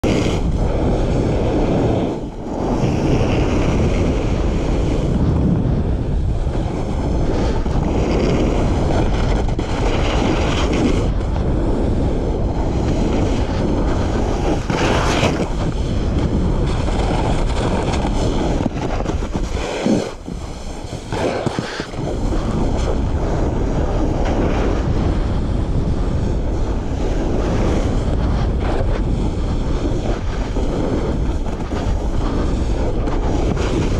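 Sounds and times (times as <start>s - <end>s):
board sliding over snow: 0.0s - 33.9s
wind rushing over microphone: 0.0s - 33.9s.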